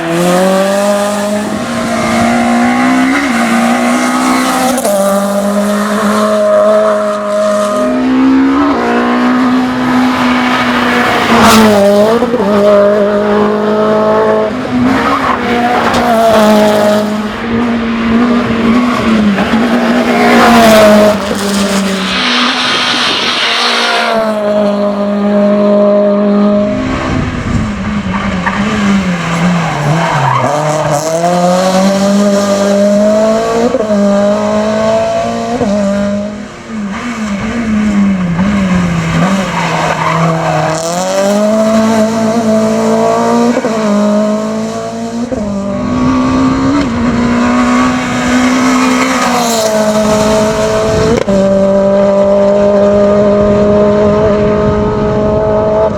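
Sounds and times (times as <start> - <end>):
race car engine revving hard: 0.0 - 55.9.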